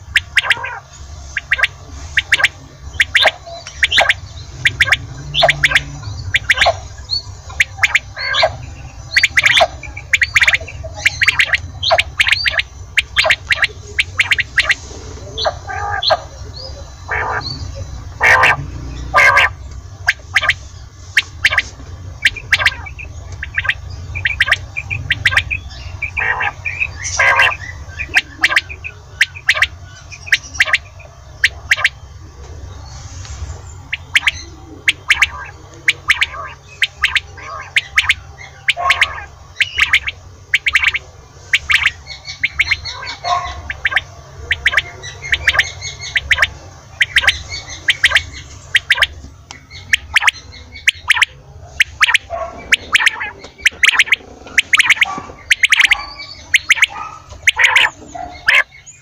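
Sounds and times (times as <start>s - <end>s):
quail calling: 0.0s - 32.5s, 33.3s - 58.8s.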